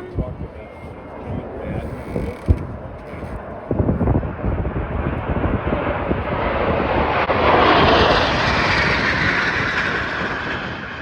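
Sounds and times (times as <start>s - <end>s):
jet aircraft flying overhead: 0.0s - 11.0s.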